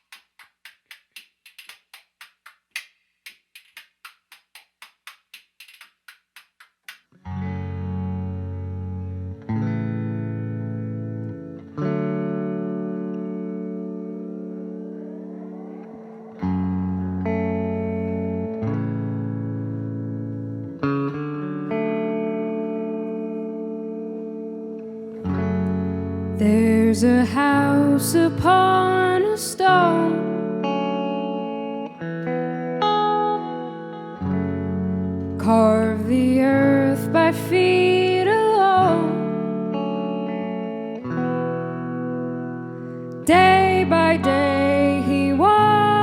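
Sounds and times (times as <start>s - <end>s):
guitar chords ringing: 7.2s - 46.0s.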